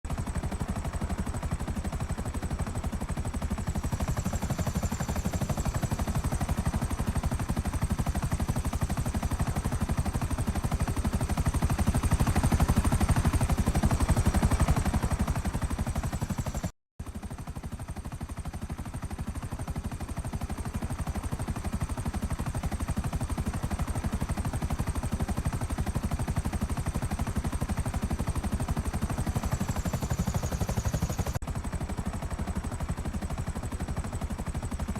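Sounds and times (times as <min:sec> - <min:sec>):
helicopter rotor chop: 0:00.1 - 0:34.9.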